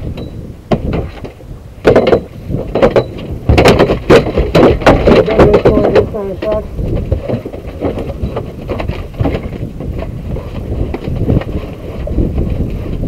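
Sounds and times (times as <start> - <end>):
boat noise on water: 0.0 - 13.0
wind: 0.0 - 13.0
knocks and taps on boat: 0.1 - 11.7.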